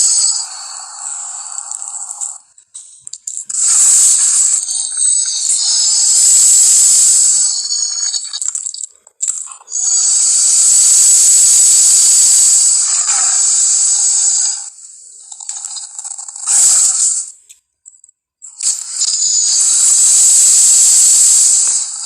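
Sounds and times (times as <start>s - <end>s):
monster screeching hiss: 0.0s - 2.4s, 3.5s - 8.2s, 9.7s - 17.4s, 18.6s - 22.0s.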